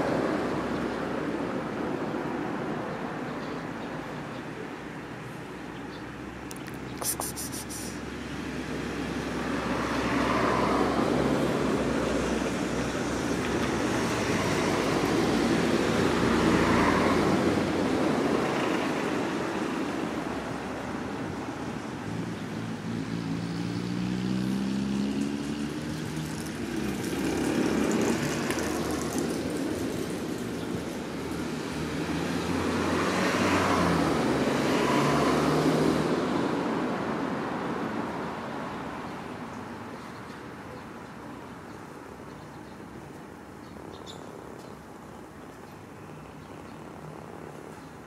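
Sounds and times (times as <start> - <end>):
vehicles passing: 0.0 - 48.0.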